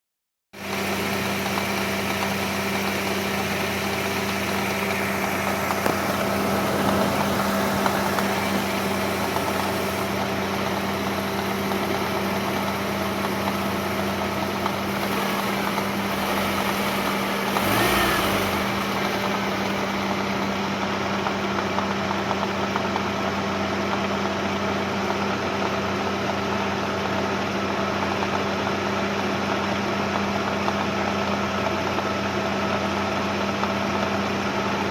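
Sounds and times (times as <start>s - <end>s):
engine idling with knock: 0.6s - 34.9s.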